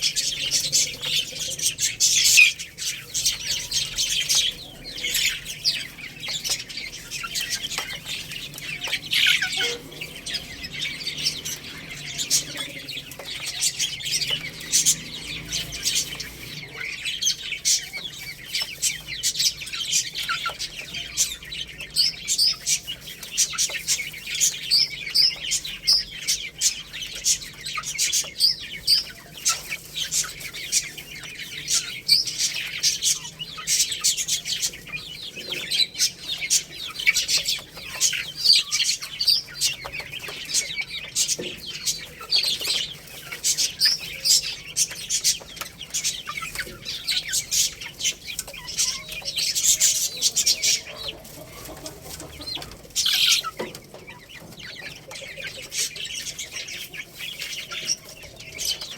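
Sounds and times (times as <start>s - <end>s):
chicks chirping: 0.0s - 58.9s.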